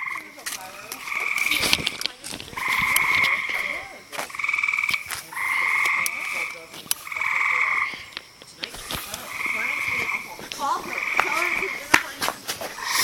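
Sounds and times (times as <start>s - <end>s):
frogs calling buzzily: 0.0s - 13.0s.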